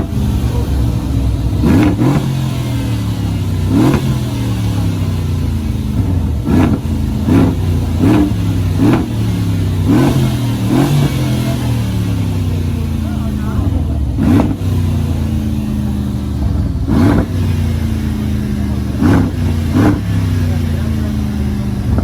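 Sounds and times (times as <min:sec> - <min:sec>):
car engine revving in blips: 0:00.0 - 0:22.0.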